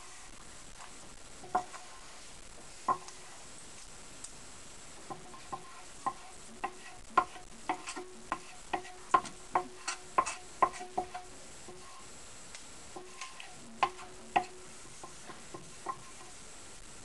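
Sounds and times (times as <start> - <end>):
wooden paddles patting butter: 0.0 - 16.5.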